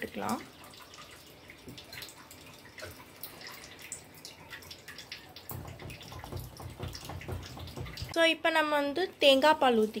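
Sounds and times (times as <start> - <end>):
milk simmering with small pops: 0.0 - 8.2.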